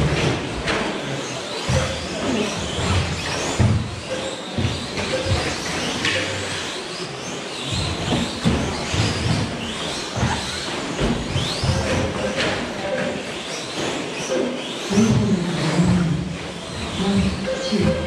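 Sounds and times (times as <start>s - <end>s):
rc truck motors whining: 0.0s - 18.0s.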